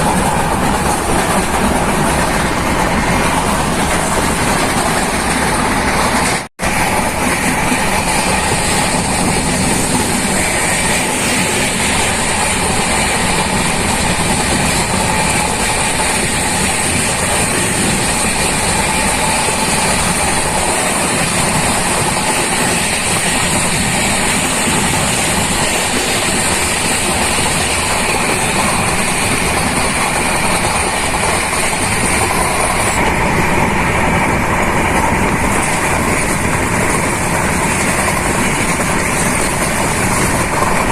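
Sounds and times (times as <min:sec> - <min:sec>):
train rumble: 0:00.0 - 0:40.9
wheels on rails: 0:00.0 - 0:40.9.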